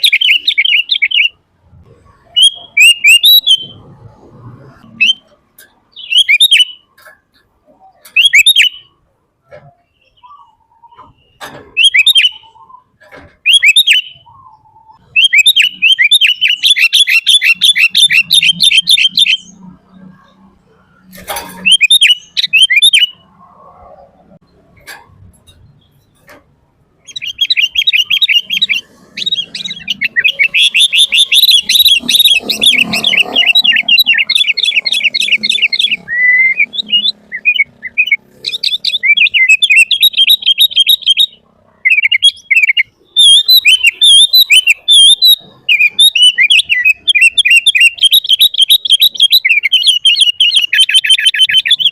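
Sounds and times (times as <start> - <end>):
bird chattering chirps: 0.0 - 1.4, 2.1 - 3.9, 4.7 - 51.9.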